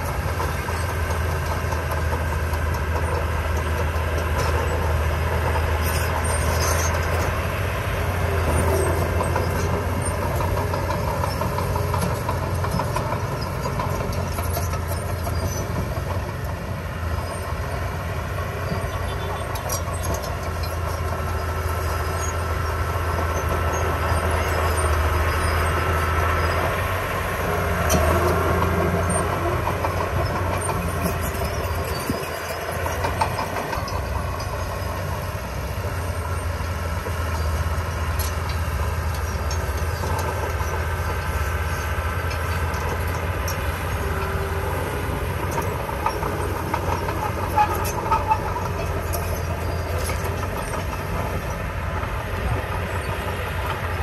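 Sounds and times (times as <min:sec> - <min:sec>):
bulldozer diesel engine running: 0:00.0 - 0:54.0
metallic clanking of tracks: 0:00.0 - 0:54.0.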